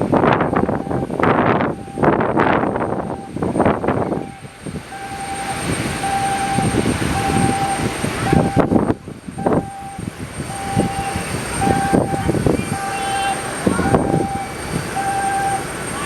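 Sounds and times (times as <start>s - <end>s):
wind buffeting microphone: 0.0s - 16.0s
electronic beeps: 0.6s - 16.0s.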